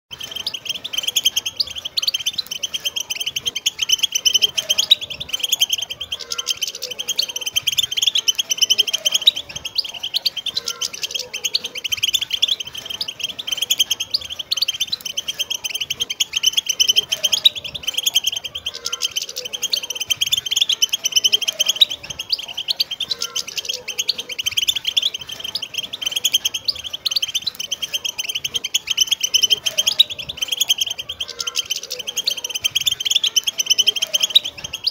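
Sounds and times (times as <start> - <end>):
goldfinches twittering: 0.1 - 34.9.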